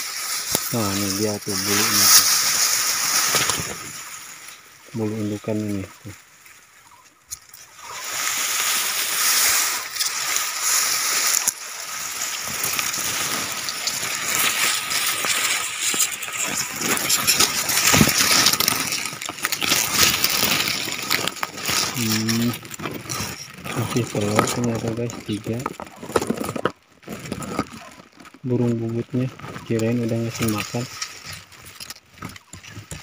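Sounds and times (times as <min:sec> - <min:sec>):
grass and dry leaves rustling: 0:00.0 - 0:33.0.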